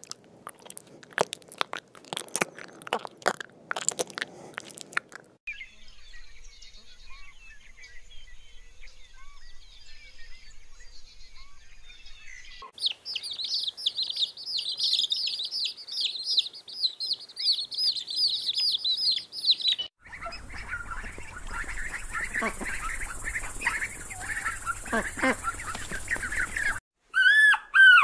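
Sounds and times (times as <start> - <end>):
birds chirping: 5.5 - 28.0.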